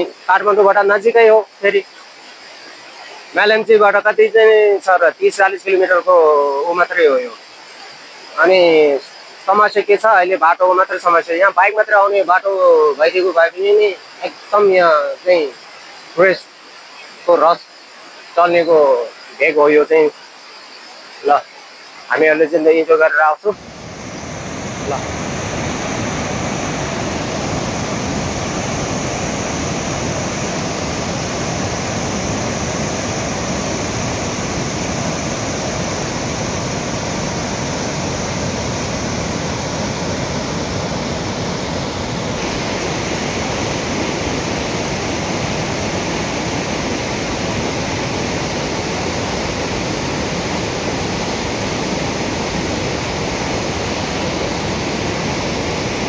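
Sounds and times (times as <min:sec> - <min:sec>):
rushing river and waterfall: 0:00.0 - 0:56.0.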